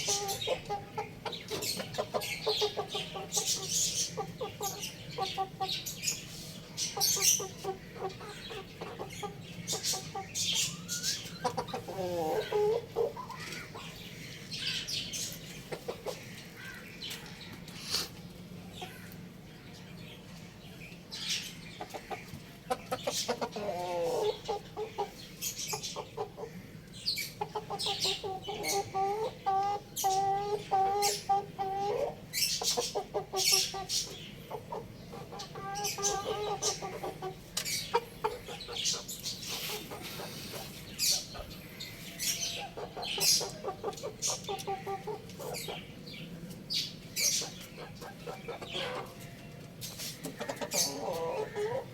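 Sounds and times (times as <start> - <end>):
high chick chirps: 0.0 - 51.9
young chickens clucking: 0.0 - 51.9.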